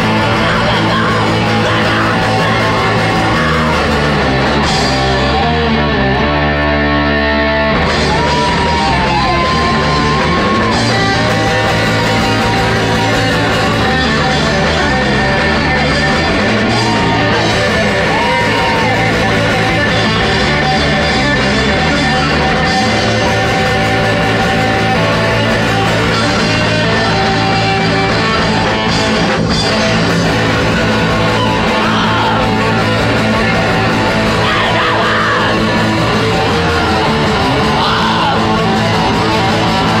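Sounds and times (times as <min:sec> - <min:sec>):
distorted electric guitars: 0:00.0 - 0:40.0
drum kit: 0:00.0 - 0:40.0.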